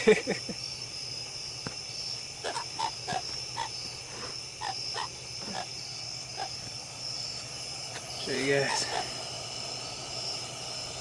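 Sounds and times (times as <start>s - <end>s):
frogs croaking: 0.0s - 11.0s
night insects chorus: 0.0s - 11.0s.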